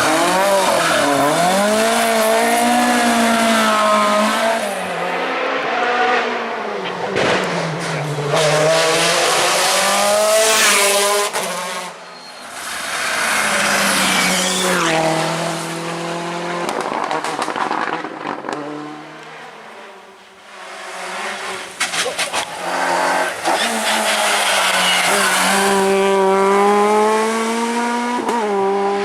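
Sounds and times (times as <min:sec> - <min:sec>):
rally car engines at full throttle: 0:00.0 - 0:29.0
tyre noise on road: 0:00.0 - 0:29.0.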